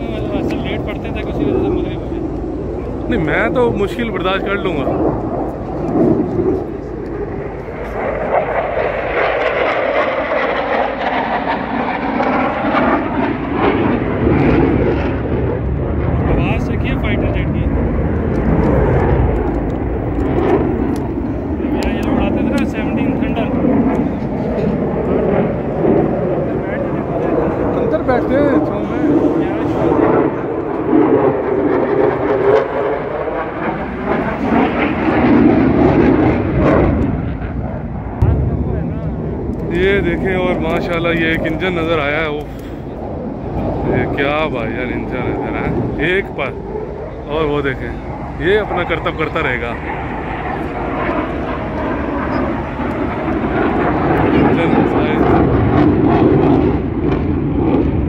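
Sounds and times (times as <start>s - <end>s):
aircraft flying past: 0.0s - 58.0s
airplane engine rumble: 0.0s - 58.0s.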